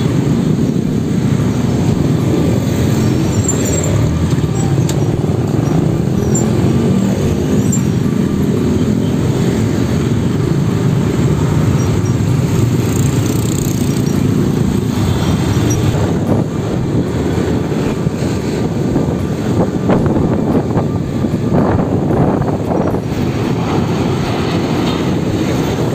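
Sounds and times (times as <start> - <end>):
road traffic rumble: 0.0 - 25.9
motorcycle engine running: 0.1 - 24.6.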